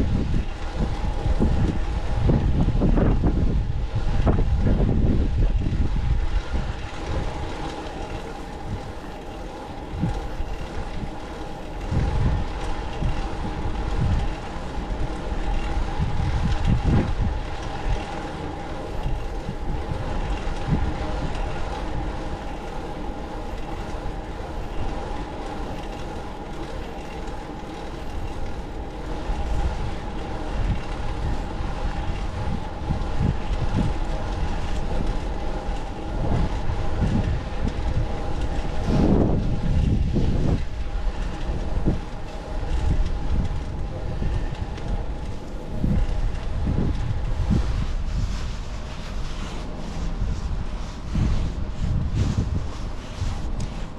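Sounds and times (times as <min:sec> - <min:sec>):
bike drivetrain whirring: 0:00.0 - 0:53.9
wind buffeting microphone: 0:00.0 - 0:53.9.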